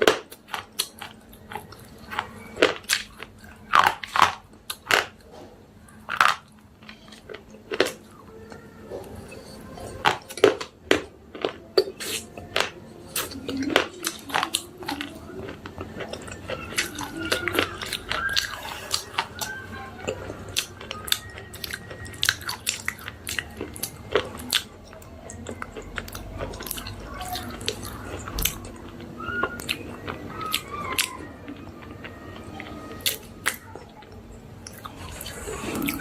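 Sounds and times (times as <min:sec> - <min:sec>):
chewing crunches: 0:00.0 - 0:36.0.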